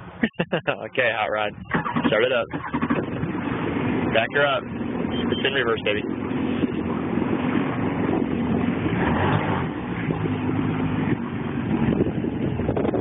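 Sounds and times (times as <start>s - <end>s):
jet ski engine drone: 1.0s - 13.0s.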